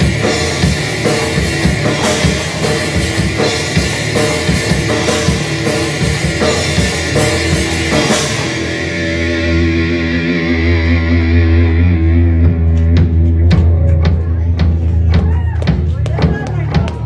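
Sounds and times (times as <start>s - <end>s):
electric guitar: 0.0s - 16.4s
bass guitar: 0.0s - 17.0s
drum kit: 0.0s - 17.0s.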